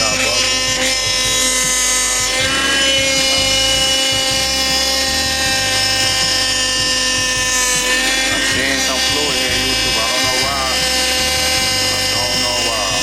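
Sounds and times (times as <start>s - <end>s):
power steering pump whining: 0.0s - 13.0s.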